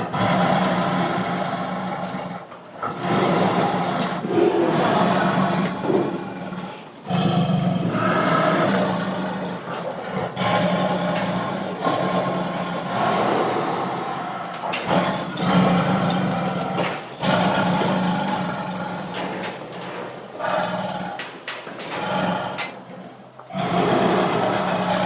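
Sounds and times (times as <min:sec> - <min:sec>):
tiger roaring and growling: 0:00.0 - 0:25.0.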